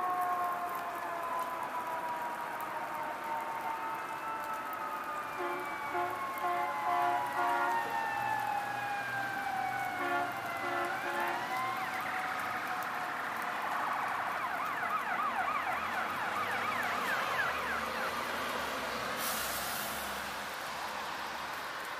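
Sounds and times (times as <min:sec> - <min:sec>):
rising and falling siren tone: 0:00.0 - 0:19.0.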